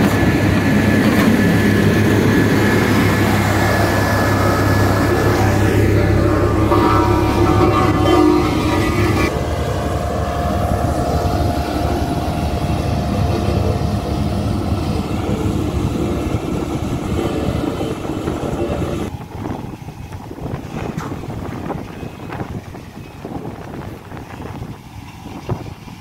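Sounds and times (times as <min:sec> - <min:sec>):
road roller diesel engine: 0:00.0 - 0:26.0.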